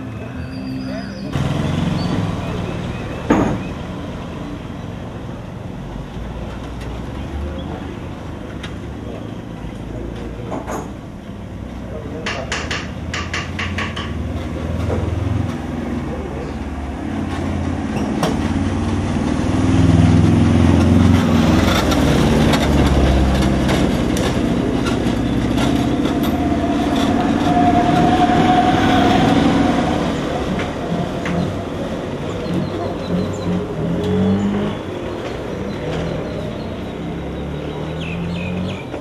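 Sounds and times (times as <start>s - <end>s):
lorry engine rumbling past: 0.0s - 10.1s, 13.0s - 39.0s.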